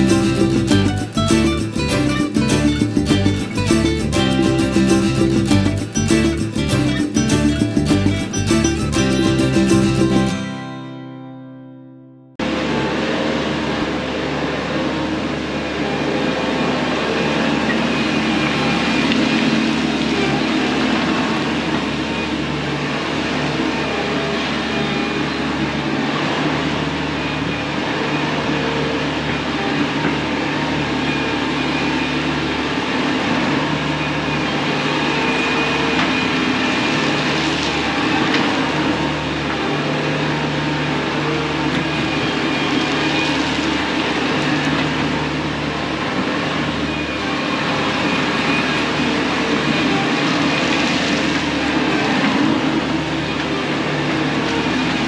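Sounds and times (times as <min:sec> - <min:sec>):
diesel engine running: 0:00.0 - 0:11.4, 0:12.4 - 0:55.0.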